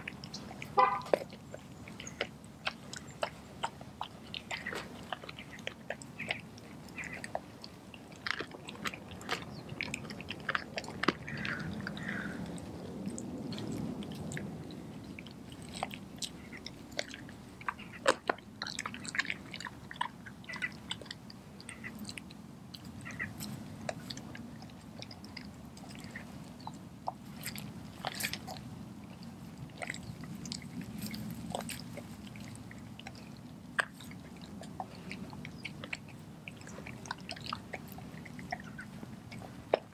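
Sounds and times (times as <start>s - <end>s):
bone crunching: 0.0s - 14.5s, 15.1s - 39.9s
dog chewing wetly: 0.0s - 39.9s.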